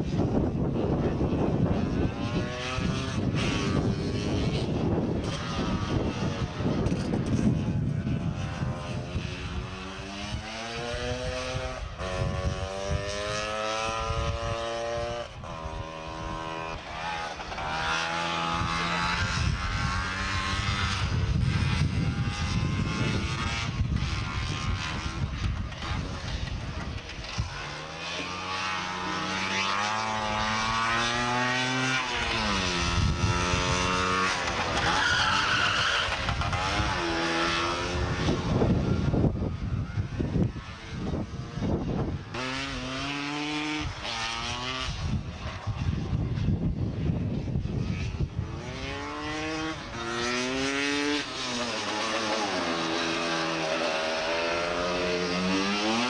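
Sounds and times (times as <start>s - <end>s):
two-stroke engines revving: 0.1s - 56.0s.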